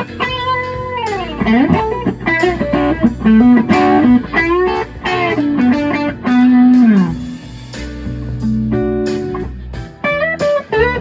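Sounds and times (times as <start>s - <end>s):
electric guitar lead phrase: 0.0s - 11.0s.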